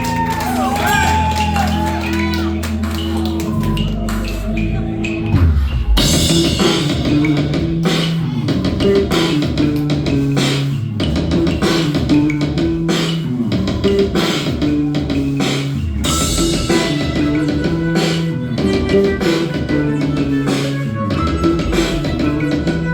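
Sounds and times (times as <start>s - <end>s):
bass guitar: 0.0s - 22.9s
drum kit steady beat: 0.0s - 22.9s.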